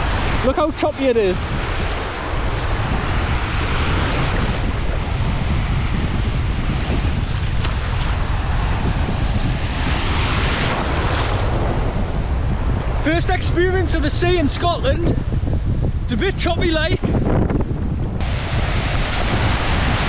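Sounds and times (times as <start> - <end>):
waves breaking in shallows: 0.0 - 14.7, 18.2 - 20.0
wind rumble on microphone: 0.0 - 20.0.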